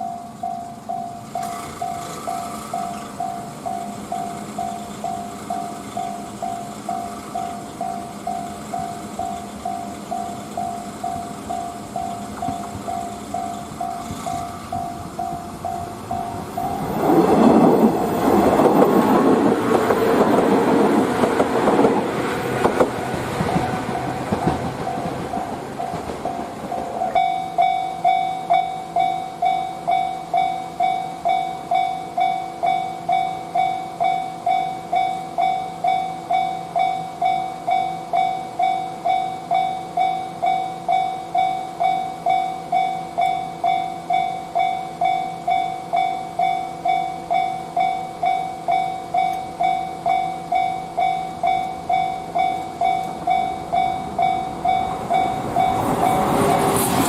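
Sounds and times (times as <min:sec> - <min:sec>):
railroad crossing bell clanging: 0:00.0 - 0:57.0
train passing: 0:00.0 - 0:57.0.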